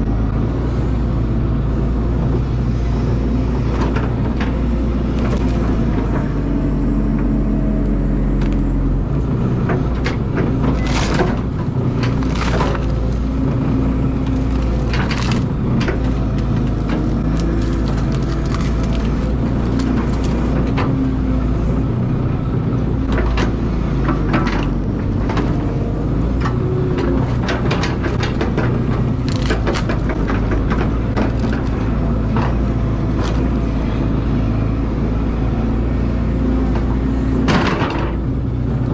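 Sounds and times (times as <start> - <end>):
excavator diesel engine running: 0.0 - 38.9
roots and wood cracking: 3.4 - 22.4, 23.0 - 38.2.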